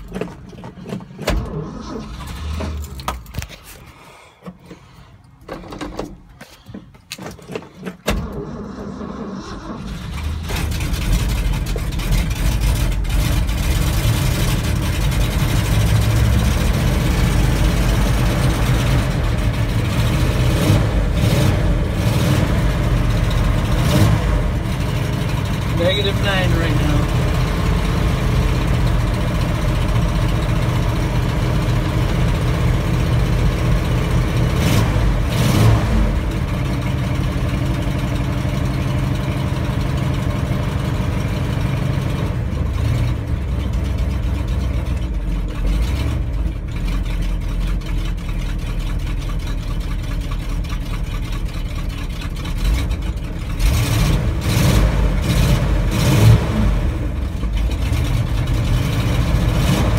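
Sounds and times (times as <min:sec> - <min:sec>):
engine idling and revving: 0:00.0 - 0:03.9, 0:07.0 - 0:59.9.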